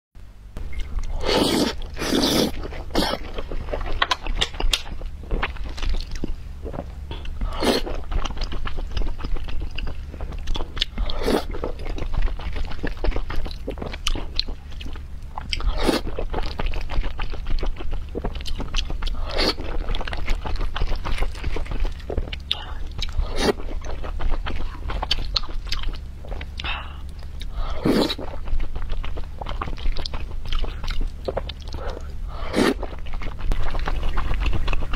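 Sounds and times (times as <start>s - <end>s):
close-miked chewing: 0.6s - 34.9s.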